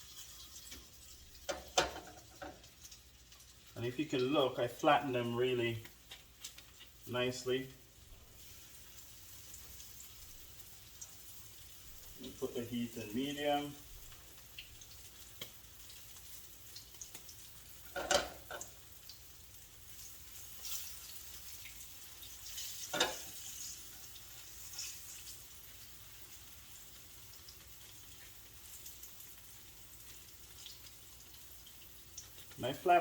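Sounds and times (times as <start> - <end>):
fritters sizzling in oil: 0.0 - 33.0
loud frying bursts: 0.0 - 33.0.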